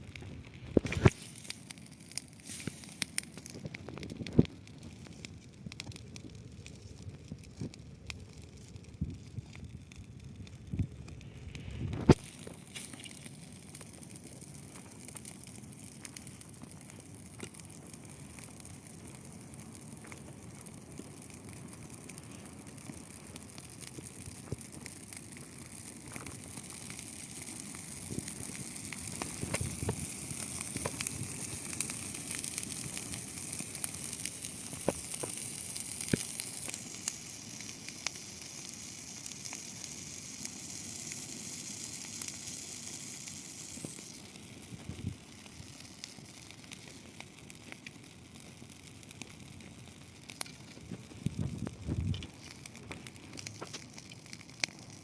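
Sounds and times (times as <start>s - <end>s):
bonfire hissing and crackling: 0.0s - 55.0s.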